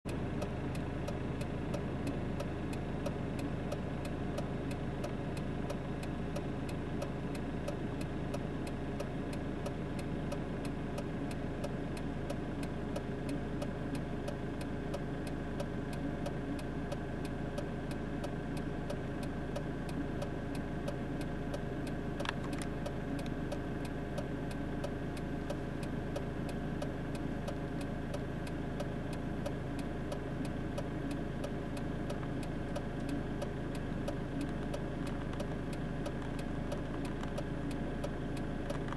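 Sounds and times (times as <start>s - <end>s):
car engine and tyre hum: 0.1s - 38.9s
faint regular ticking: 0.1s - 38.9s.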